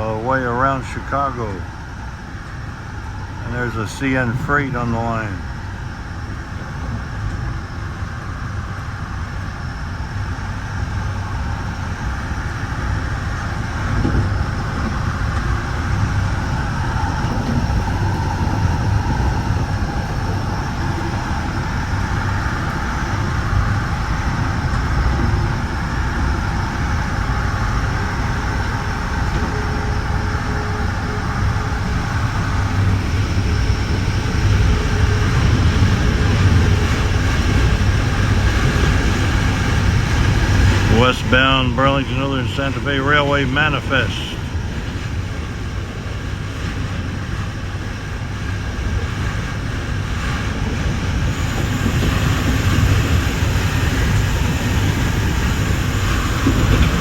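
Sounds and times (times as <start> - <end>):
train rumble and rail noise: 0.0 - 57.0.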